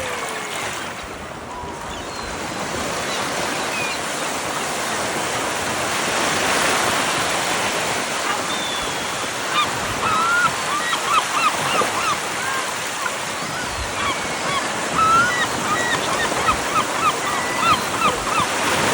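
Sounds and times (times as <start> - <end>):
surf breaking and washing: 0.0 - 18.9.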